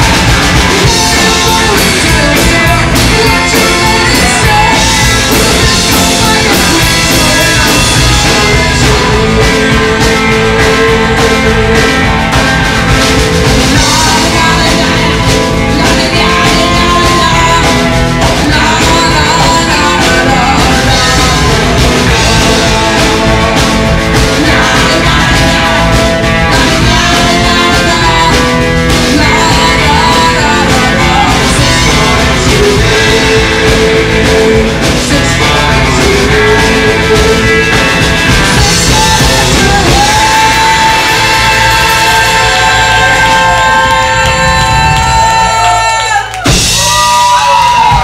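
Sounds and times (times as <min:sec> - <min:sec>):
drum kit: 0:00.0 - 0:48.0
electric guitar: 0:00.0 - 0:48.0
upright double bass: 0:00.0 - 0:48.0.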